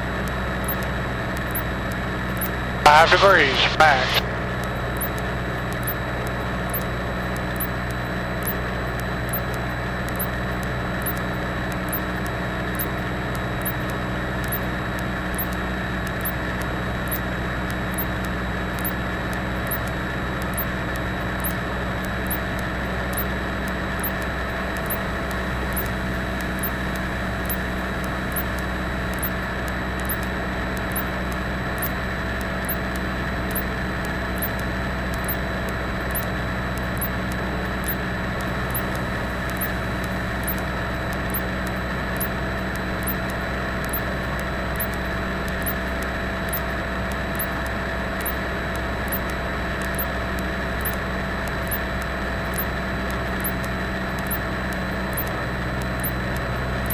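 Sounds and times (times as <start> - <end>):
thin electrical whine: 0.0 - 56.9
faint regular ticking: 0.1 - 56.9.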